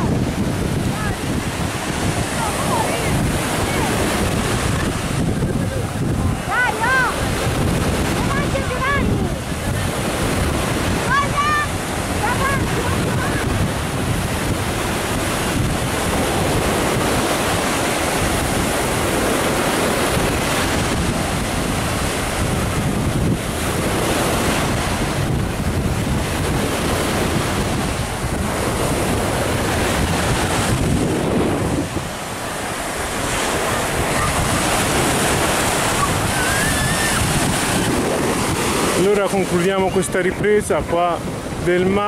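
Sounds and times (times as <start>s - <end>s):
sea surf breaking on beach: 0.0s - 42.0s
wind buffeting microphone: 0.0s - 42.0s.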